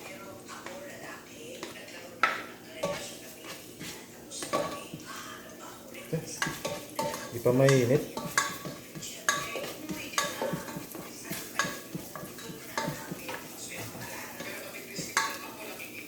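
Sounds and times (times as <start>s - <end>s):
metal utensil stirring in pan: 0.0s - 16.0s.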